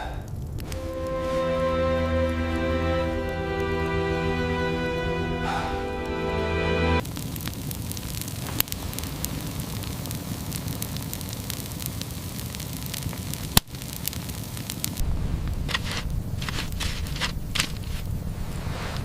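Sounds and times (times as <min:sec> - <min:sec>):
wood fire crackling: 0:00.0 - 0:05.4, 0:06.0 - 0:19.0.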